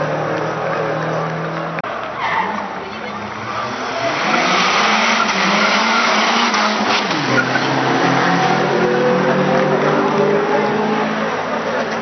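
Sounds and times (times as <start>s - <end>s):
race cars passing at speed: 0.0s - 12.0s.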